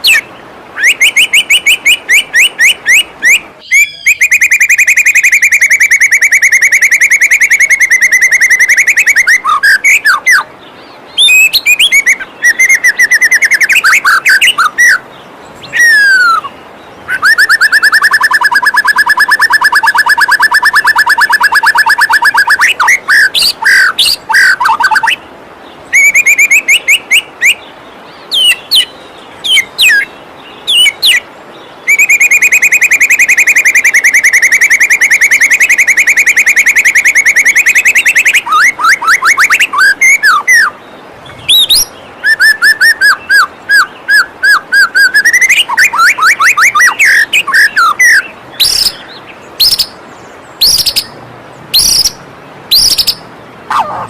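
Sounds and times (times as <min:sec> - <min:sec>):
bird song with rapid trills: 0:00.0 - 0:54.0.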